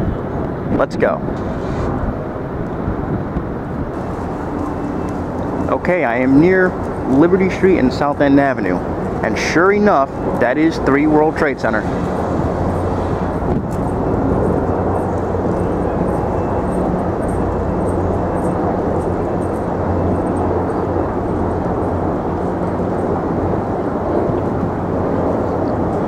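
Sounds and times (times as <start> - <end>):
low hum of city traffic: 0.0 - 26.0
wind buffeting microphone: 0.0 - 26.0.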